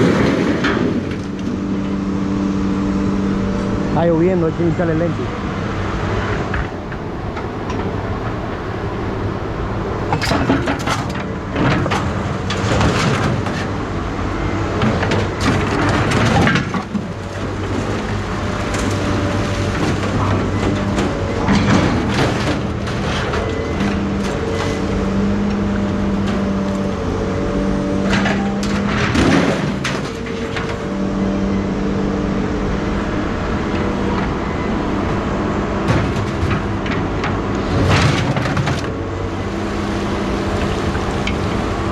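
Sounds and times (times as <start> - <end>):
vehicle engine running: 0.0 - 10.1, 16.9 - 41.9.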